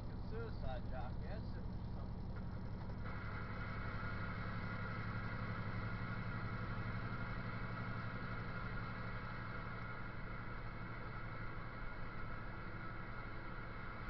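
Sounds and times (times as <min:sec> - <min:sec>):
car engine and tyres droning: 0:00.0 - 0:14.0.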